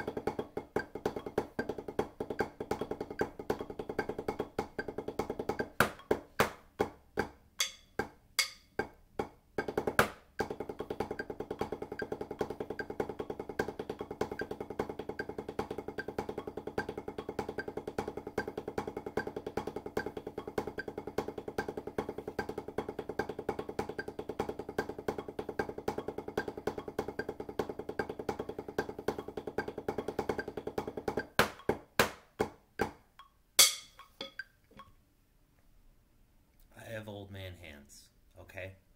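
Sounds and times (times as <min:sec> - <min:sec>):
drumsticks on a practice pad: 0:00.0 - 0:34.9.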